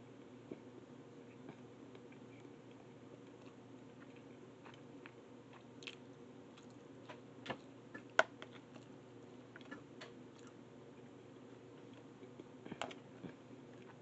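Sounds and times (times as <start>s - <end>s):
low steady hum: 0.0s - 14.0s
soft chewing: 0.2s - 14.0s.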